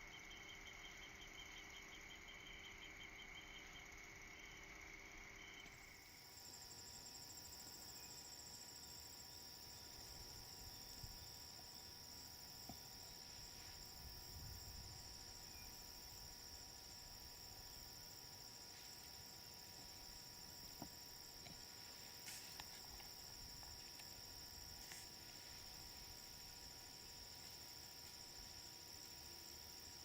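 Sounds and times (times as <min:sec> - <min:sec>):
insects trilling: 0:00.0 - 0:30.0
quiet outdoor background: 0:00.0 - 0:30.0.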